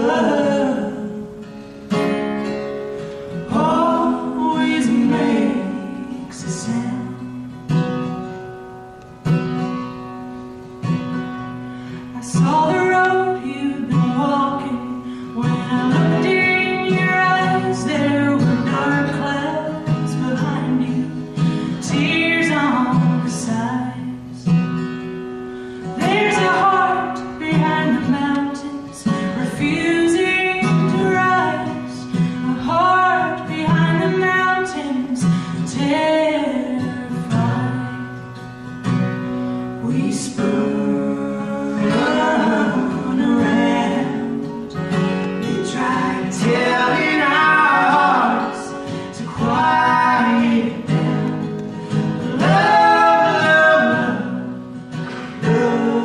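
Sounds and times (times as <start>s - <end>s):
acoustic guitar: 0.0s - 56.0s
woman singing folk song: 0.0s - 56.0s.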